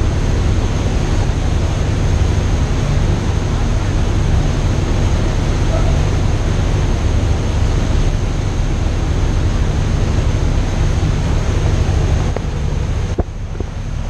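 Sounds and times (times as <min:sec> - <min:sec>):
boat engine rumble: 0:00.0 - 0:14.0
wind and water rushing: 0:00.0 - 0:14.0.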